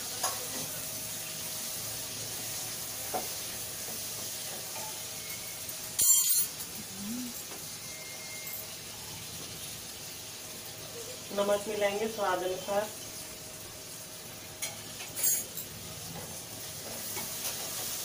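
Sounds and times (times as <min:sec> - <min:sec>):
masala sizzling in a pan: 0:00.0 - 0:18.0.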